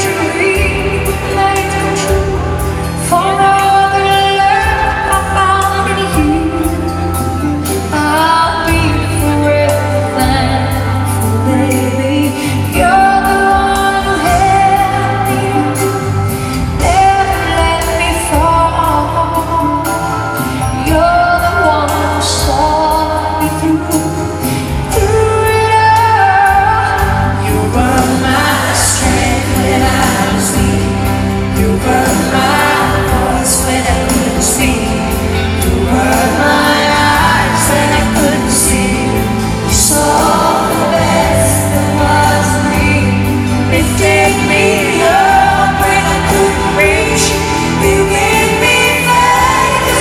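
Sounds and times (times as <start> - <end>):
band with keyboards and drums: 0.0 - 50.0
woman singing pop ballad: 0.0 - 50.0.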